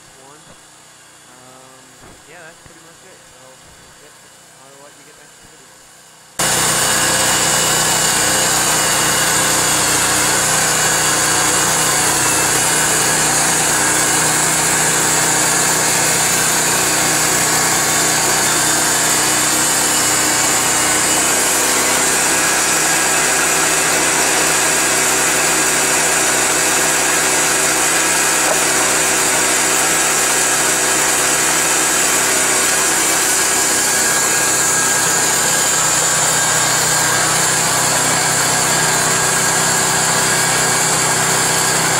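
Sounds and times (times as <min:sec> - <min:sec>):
gasoline engine running: 0:06.4 - 0:41.2.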